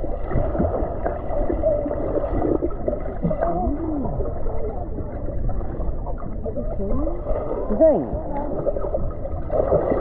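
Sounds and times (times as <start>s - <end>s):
underwater gurgling water: 0.0s - 10.0s.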